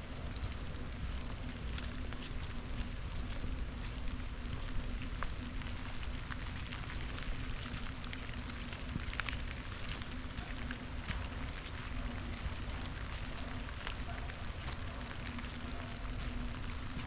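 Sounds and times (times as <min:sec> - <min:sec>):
raindrops ticking: 0:00.0 - 0:17.0.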